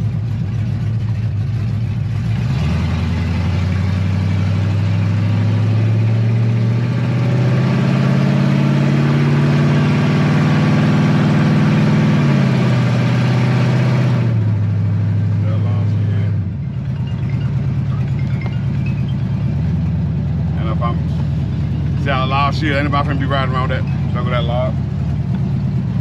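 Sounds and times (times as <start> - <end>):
unmuffled truck engine running: 0.0 - 26.0.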